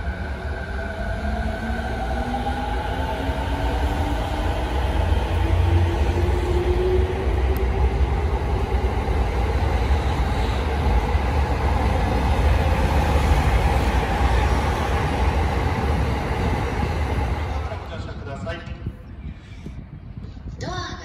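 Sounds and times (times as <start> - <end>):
train cars rumbling past: 0.0 - 18.9.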